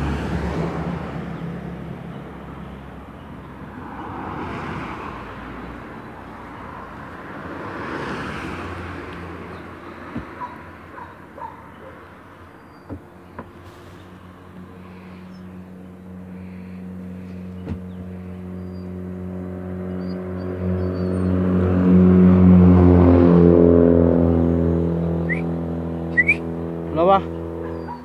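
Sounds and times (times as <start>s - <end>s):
vehicle engine passing: 0.0s - 28.0s.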